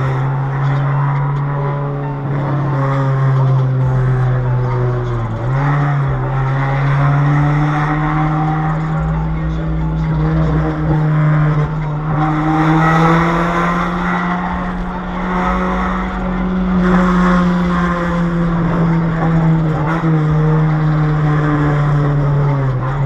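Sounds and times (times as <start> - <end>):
car with loud exhaust driving: 0.0 - 23.0.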